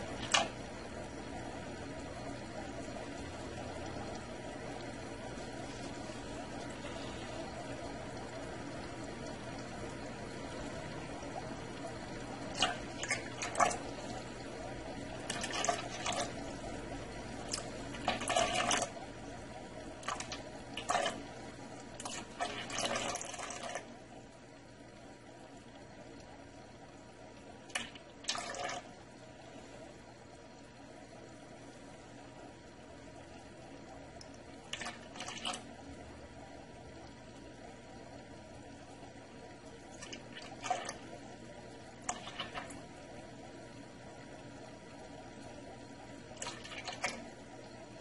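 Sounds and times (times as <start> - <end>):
gravel siphon running water: 0.0 - 48.0.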